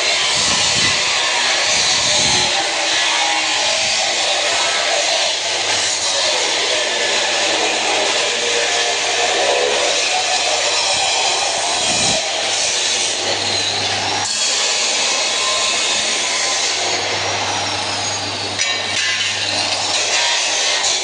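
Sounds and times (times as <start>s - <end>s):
angle grinder cutting: 0.0s - 21.0s.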